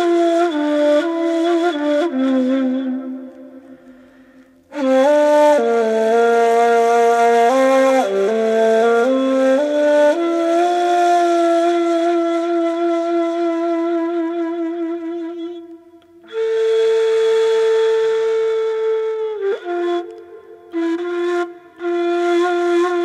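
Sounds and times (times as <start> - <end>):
reed flute melody: 0.0 - 23.0.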